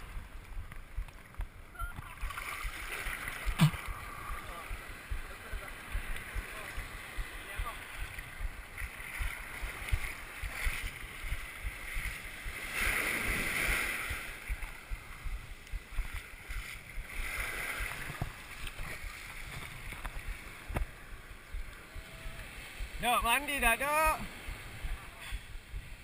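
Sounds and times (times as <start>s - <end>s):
surf washing over camera: 0.0s - 26.0s.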